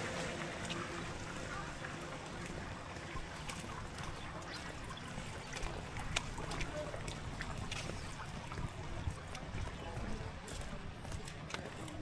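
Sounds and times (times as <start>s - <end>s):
water drips and splashes: 0.0s - 12.0s.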